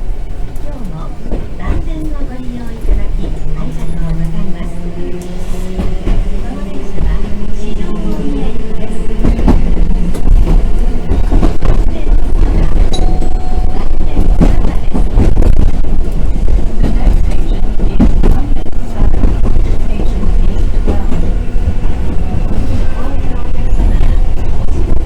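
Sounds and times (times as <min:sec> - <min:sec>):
tram rumbling on track: 0:00.0 - 0:25.0.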